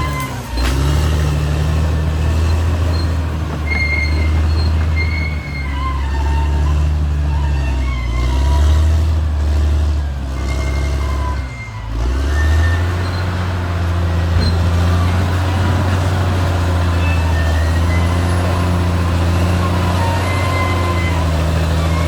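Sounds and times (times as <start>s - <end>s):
bulldozer diesel engine running: 0.0s - 22.0s
steel tracks squealing: 0.0s - 22.0s.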